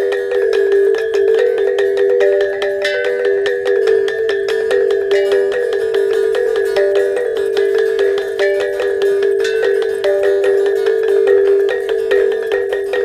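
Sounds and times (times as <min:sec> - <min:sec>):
tuned percussion ringing notes: 0:00.0 - 0:13.0.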